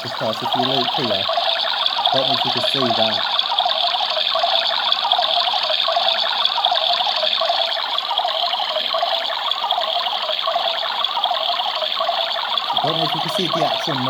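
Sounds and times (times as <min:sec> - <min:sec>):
toy washing machine motor: 0:00.0 - 0:14.0.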